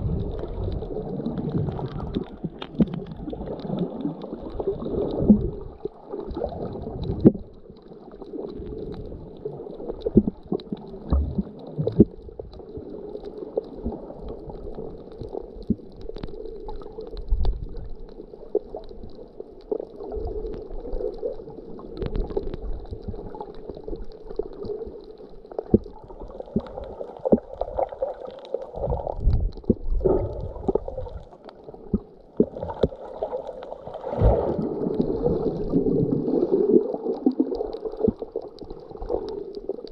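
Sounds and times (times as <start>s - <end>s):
underwater gurgling rumble: 0.0s - 39.9s.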